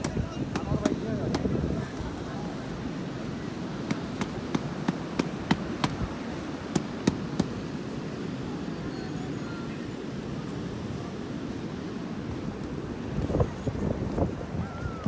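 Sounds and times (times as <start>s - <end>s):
sea surf: 0.0s - 15.0s
wind: 0.0s - 15.0s.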